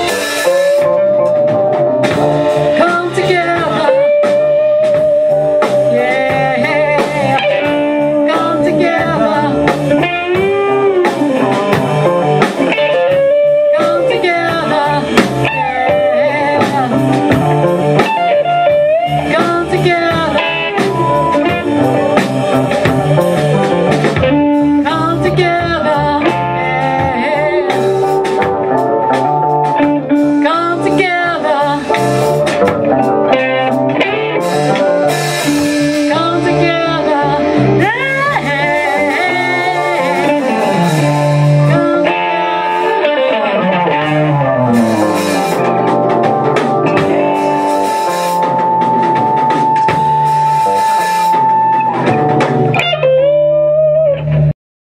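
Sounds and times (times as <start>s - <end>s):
live blues-rock band: 0.0s - 54.5s
electric guitar bending notes: 0.0s - 54.6s.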